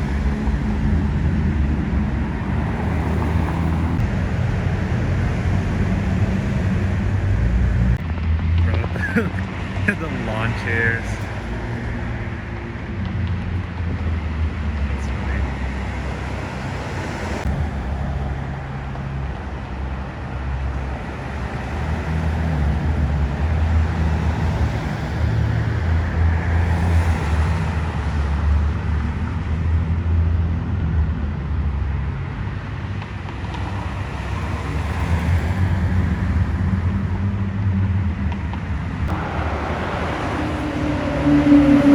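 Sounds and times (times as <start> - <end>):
car engines rumbling: 0.0 - 41.9
tyre and road noise: 0.0 - 41.9.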